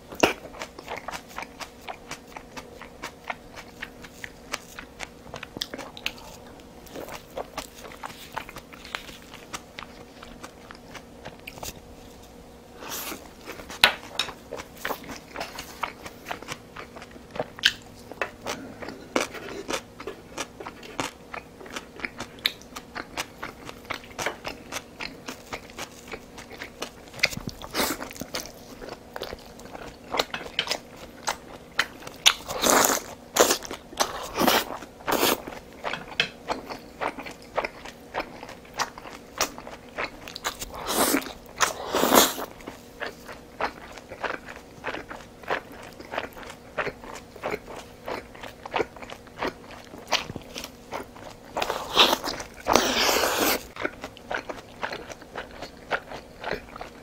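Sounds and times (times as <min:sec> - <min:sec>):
person chewing and biting food: 0:00.2 - 0:11.9, 0:12.8 - 0:57.0.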